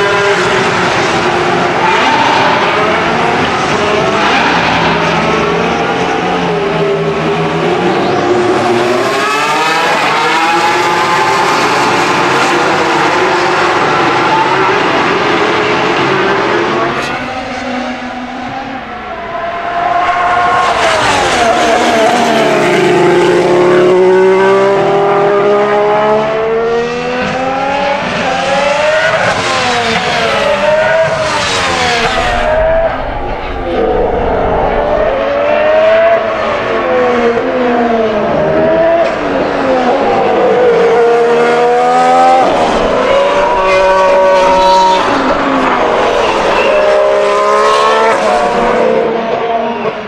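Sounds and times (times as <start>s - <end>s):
racing cars passing at speed: 0.0s - 50.0s.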